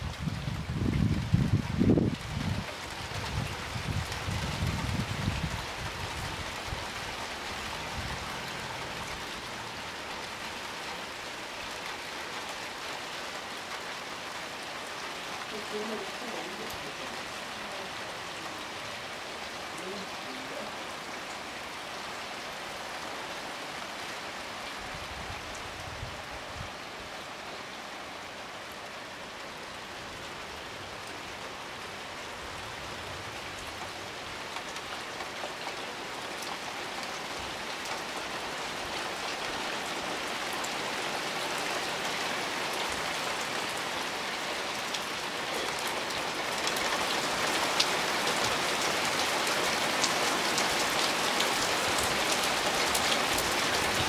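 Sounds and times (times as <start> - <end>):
hard rain on pool water: 0.0 - 54.0.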